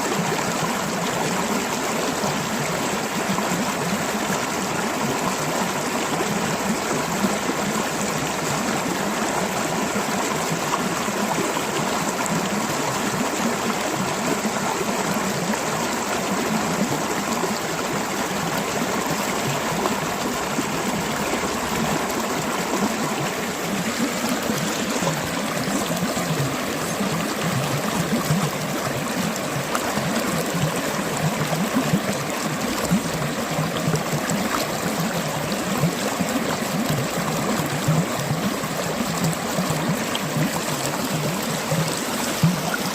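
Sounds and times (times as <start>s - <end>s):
stream flowing and gurgling: 0.0s - 42.9s
water splashes and trickles: 0.0s - 42.9s.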